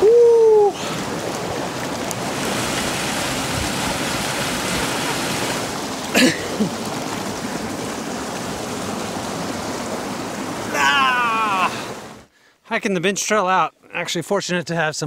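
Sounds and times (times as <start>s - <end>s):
flowing river water: 0.0s - 12.5s.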